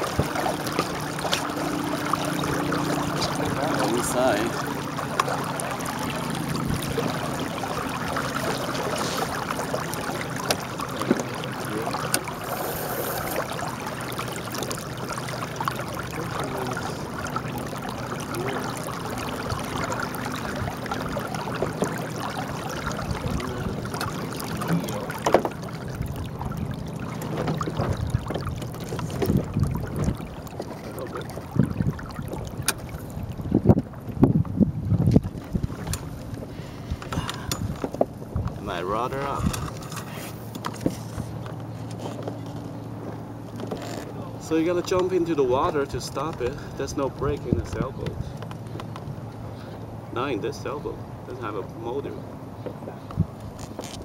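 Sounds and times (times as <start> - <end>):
water lapping along boat hull: 0.0 - 54.0
wind: 0.0 - 54.0.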